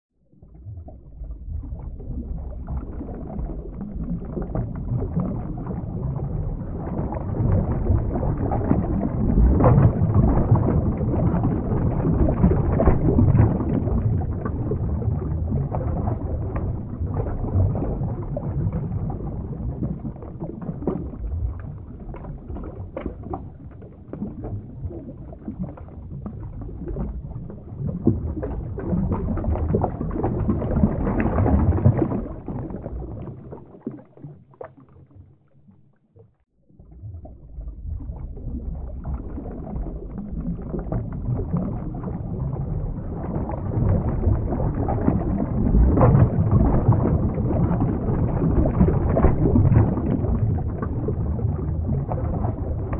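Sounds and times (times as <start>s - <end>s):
underwater rumbling wash: 0.2s - 52.9s.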